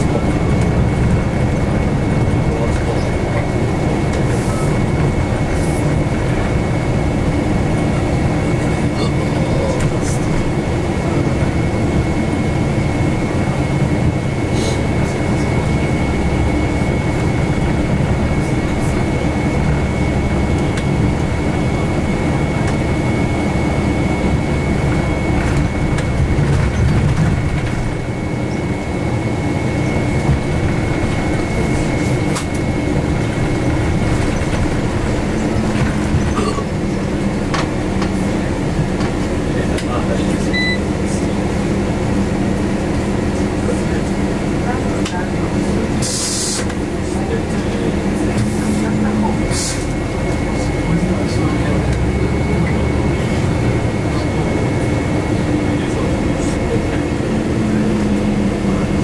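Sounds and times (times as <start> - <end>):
bus engine and tyres rumbling: 0.0 - 59.0.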